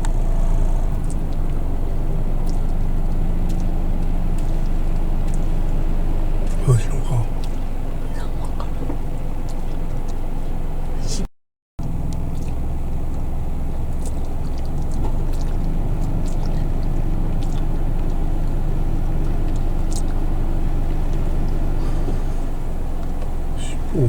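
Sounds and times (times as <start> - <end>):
car engine idling: 0.0 - 11.2, 11.8 - 24.0.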